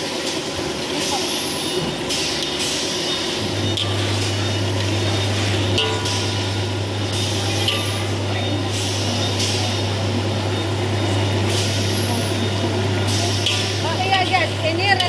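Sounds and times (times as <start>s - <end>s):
cooking hiss: 0.0s - 15.0s.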